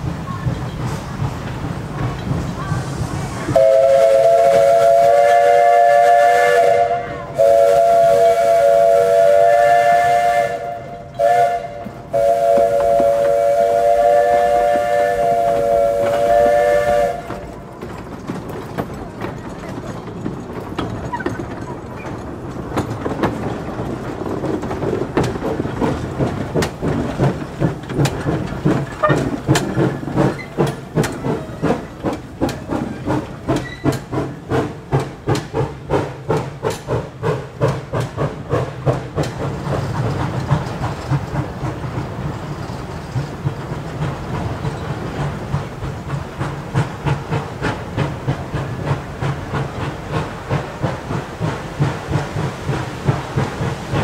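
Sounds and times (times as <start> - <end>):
steam hiss: 0.0 - 17.6, 22.5 - 54.0
steam locomotive exhaust chuffing: 0.0 - 54.0.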